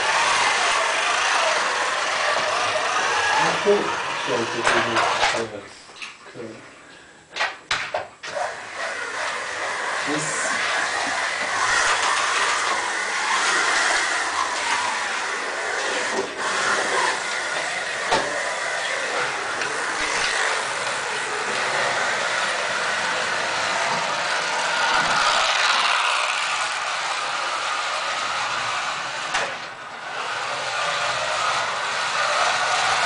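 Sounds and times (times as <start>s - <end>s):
slot car motors whirring: 0.0s - 5.4s, 8.3s - 33.0s.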